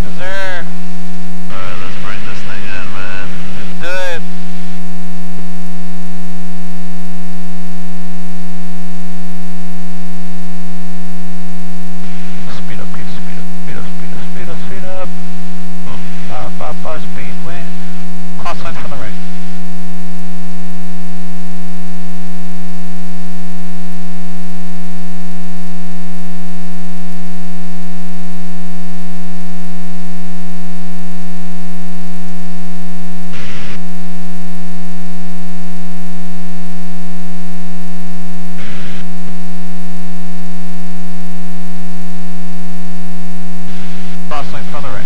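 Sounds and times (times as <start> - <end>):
loud electrical hum: 0.0 - 45.0
short radio crackles: 0.0 - 45.0.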